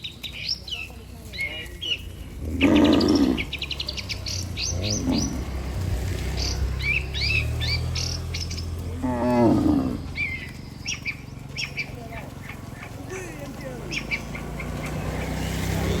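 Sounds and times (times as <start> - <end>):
small birds chirping: 0.0 - 16.0
cattle mooing: 2.2 - 16.0.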